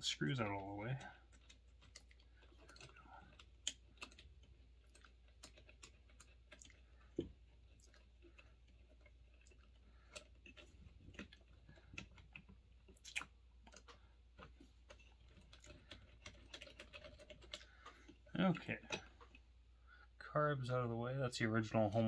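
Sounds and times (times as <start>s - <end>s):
small parts clicking and tapping: 0.0s - 19.4s.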